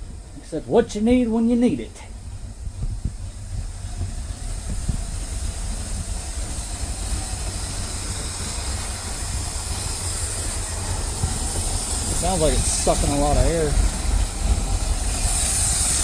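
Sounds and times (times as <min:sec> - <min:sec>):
engine air intake hiss: 0:00.0 - 0:16.0
truck engine idling: 0:00.0 - 0:16.0.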